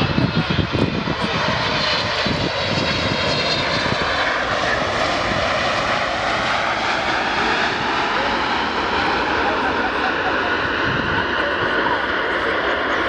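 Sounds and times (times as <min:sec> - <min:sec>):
jet engines roaring in reverse thrust: 0:00.0 - 0:13.0.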